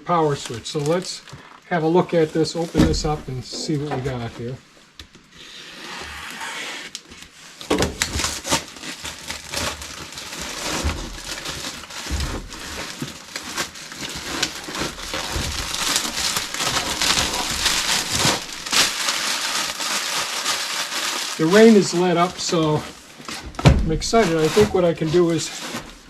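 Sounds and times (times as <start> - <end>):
packaging crinkling and rustling: 0.0 - 5.4, 6.2 - 26.0.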